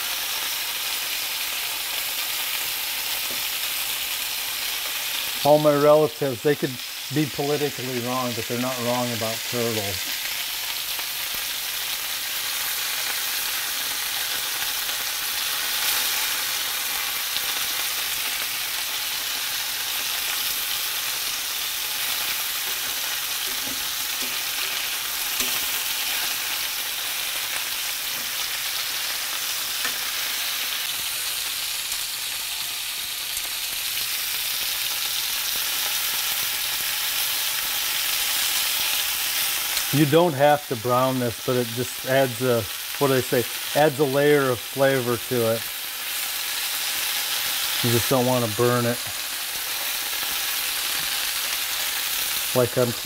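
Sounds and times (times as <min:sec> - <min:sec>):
meat sizzling in oil: 0:00.0 - 0:53.0.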